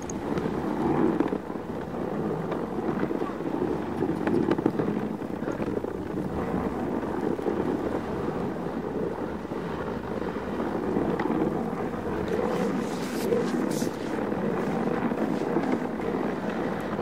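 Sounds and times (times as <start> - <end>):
sled rushing over snow: 0.0 - 17.0.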